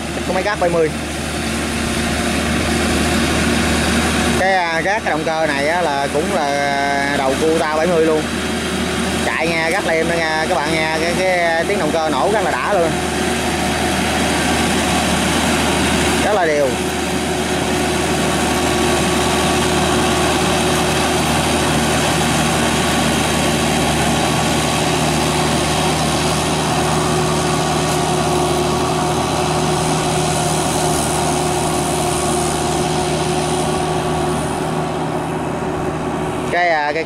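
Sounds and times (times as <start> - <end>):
diesel engine running steadily: 0.0 - 37.0.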